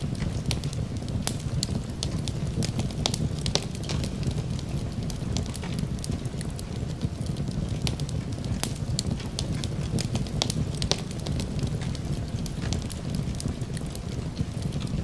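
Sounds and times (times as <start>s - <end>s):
wood fire crackling: 0.0s - 15.0s
sharp pops and snaps: 0.1s - 15.0s.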